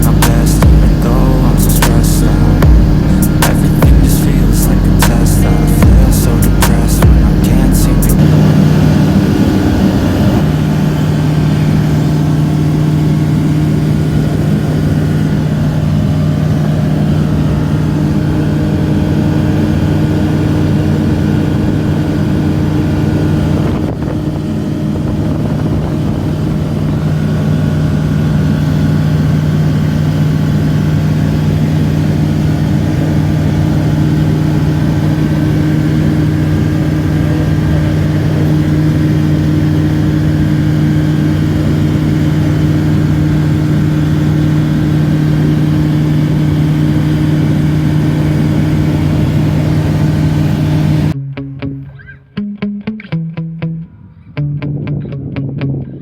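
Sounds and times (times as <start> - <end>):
light aircraft engine drone: 0.0 - 51.2.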